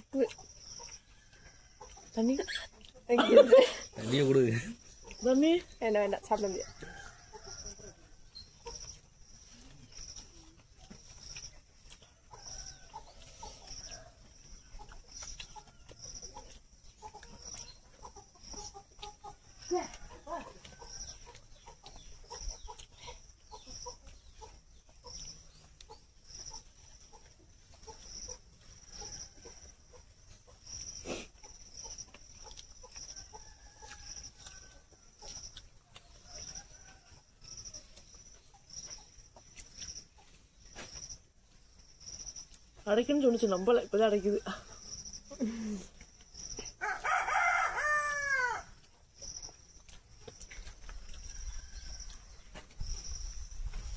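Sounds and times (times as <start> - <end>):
chewing: 0.0 - 5.8, 6.6 - 42.8, 48.7 - 53.9
chickens clucking: 0.0 - 53.9.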